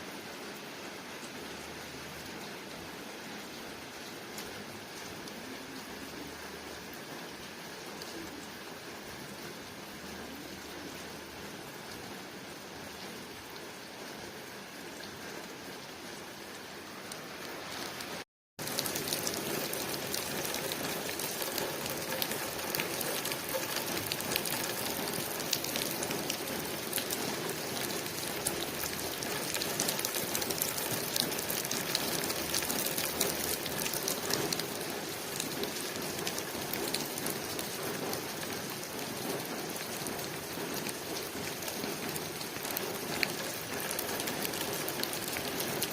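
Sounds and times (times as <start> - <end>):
rain pattering on a window: 0.0 - 45.9.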